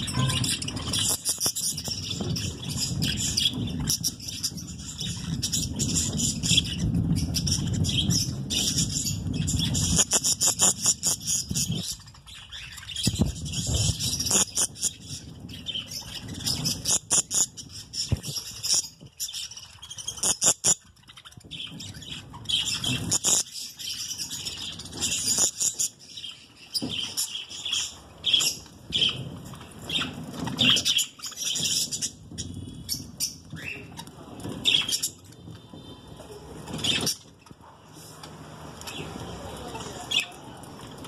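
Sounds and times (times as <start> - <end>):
budgerigars chirping: 0.0 - 34.0.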